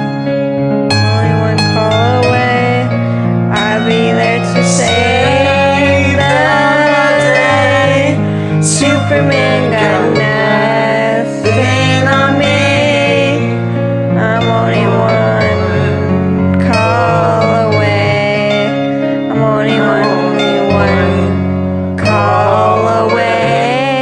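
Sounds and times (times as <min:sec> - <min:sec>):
piano pop karaoke backing track: 0:00.0 - 0:24.0
person singing long sliding notes: 0:01.0 - 0:24.0.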